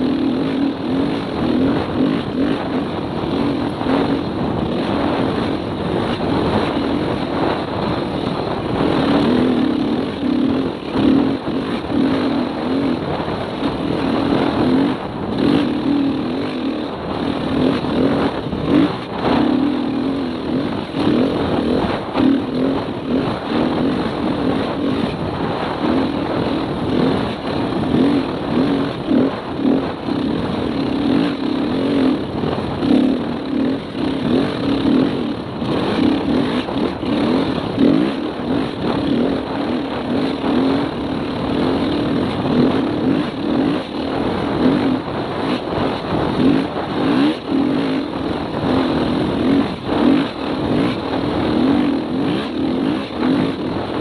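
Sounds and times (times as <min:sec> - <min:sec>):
dirt bike engine running hard: 0:00.0 - 0:54.0
steady rushing noise: 0:00.0 - 0:54.0.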